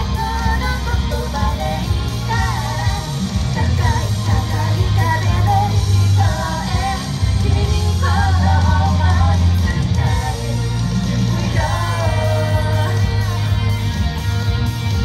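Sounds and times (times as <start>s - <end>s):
female group singing live: 0.0s - 14.2s
loud pop music with bass: 0.0s - 15.0s.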